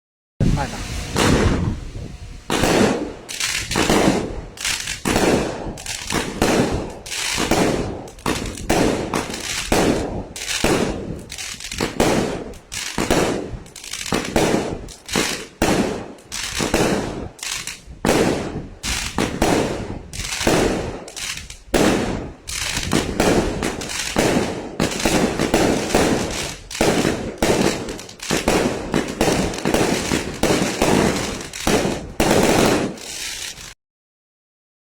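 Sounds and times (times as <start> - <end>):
firework shells banging and crackling: 0.5 - 1.7, 2.4 - 33.8.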